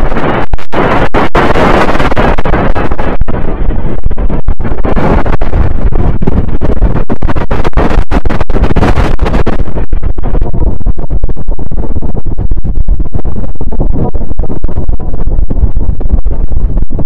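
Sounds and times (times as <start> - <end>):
distorted synthesized rumble: 0.0 - 17.0.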